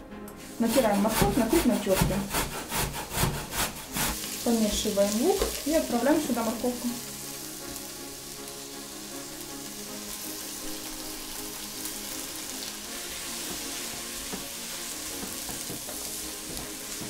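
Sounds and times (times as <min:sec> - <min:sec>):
onion sizzling in oil: 0:00.4 - 0:17.0.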